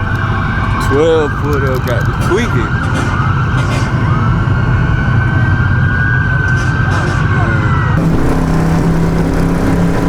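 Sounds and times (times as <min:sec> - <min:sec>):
low rumble of car engines: 0:00.0 - 0:10.0
police siren wailing: 0:00.0 - 0:10.0.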